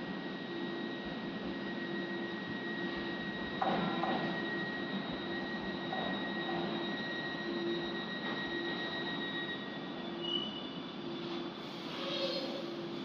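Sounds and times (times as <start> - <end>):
electrical hum: 0.0 - 13.0
high whine: 0.0 - 13.0
brief loud tone: 1.7 - 13.0.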